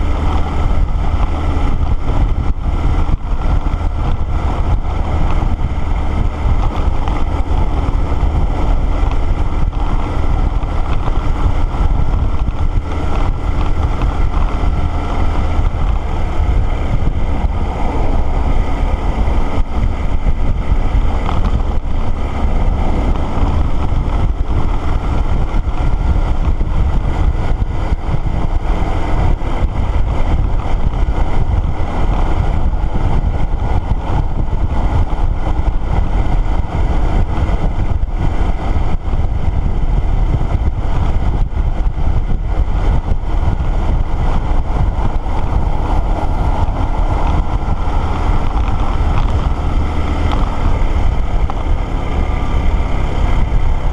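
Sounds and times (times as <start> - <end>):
motorcycle engine: 0.0 - 53.9
road noise: 0.0 - 53.9
wind rush over microphone: 0.0 - 53.9.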